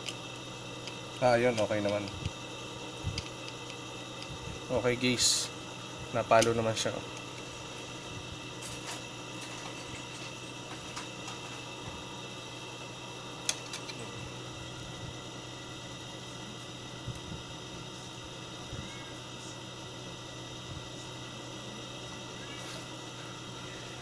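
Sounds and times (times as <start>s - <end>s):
steady hum and hiss: 0.0s - 24.0s.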